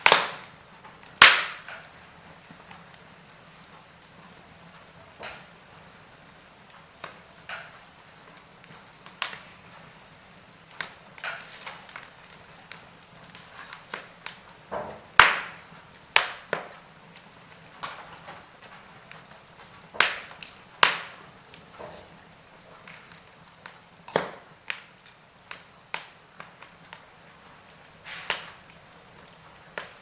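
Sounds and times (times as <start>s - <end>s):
faint steady hiss: 0.0s - 30.0s
fire pops and snaps: 0.0s - 30.0s
wood fire crackling: 0.0s - 30.0s.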